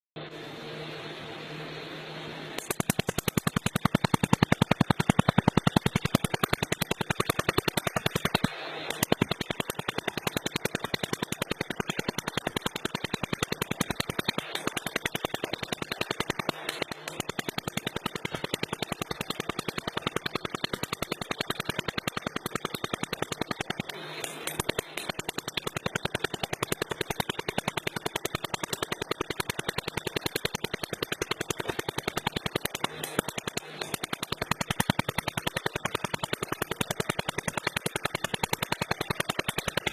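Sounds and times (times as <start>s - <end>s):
laser welder clicking: 2.6s - 39.9s.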